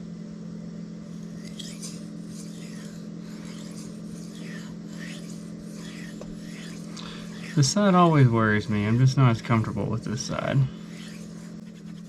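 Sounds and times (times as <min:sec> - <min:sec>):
steady low hum: 0:00.0 - 0:12.0
knife rasping on whetstone: 0:01.1 - 0:12.0.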